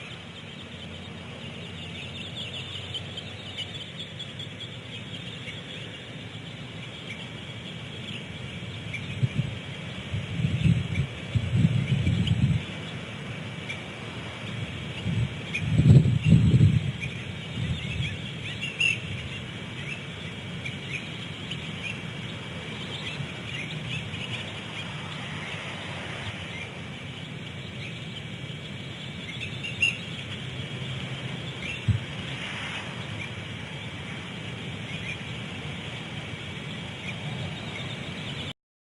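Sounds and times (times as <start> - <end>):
steady outdoor hiss: 0.0 - 38.5
birds chirping: 0.0 - 38.6.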